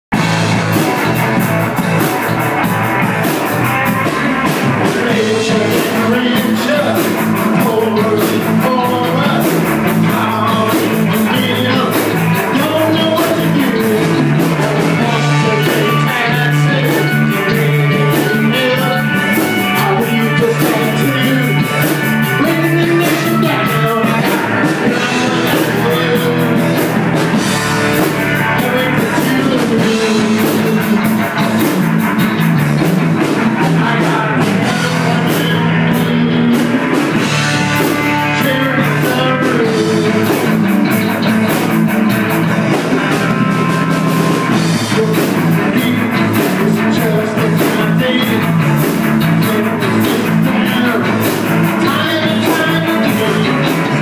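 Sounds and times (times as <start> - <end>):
drum kit steady beat: 0.1 - 54.0
guitar: 0.1 - 54.0
rock band playing: 0.1 - 54.0.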